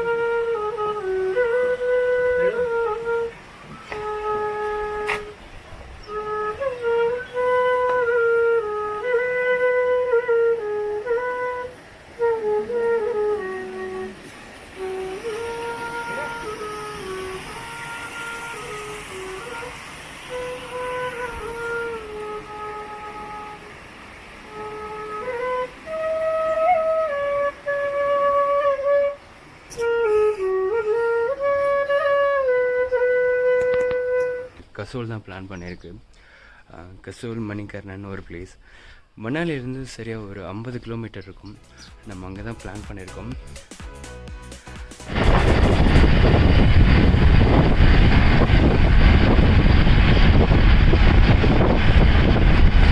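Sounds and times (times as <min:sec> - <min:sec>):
wind buffeting microphone: 0:00.0 - 0:34.5, 0:45.0 - 0:52.9
solo flute melody: 0:00.0 - 0:34.8, 0:41.6 - 0:52.9.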